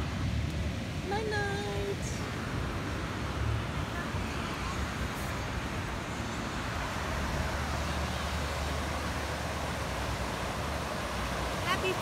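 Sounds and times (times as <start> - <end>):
ocean surf: 0.0 - 12.0.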